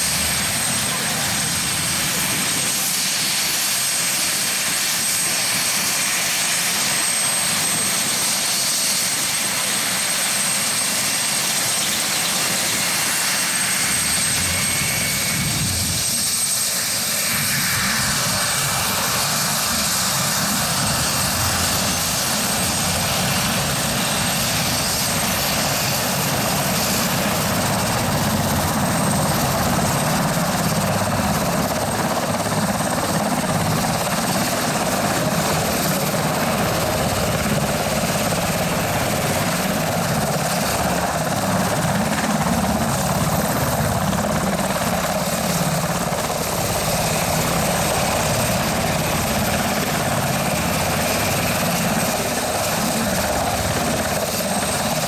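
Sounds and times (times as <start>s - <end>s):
helicopter rotors rushing: 0.0s - 55.0s
helicopter turbine whine: 0.0s - 55.0s.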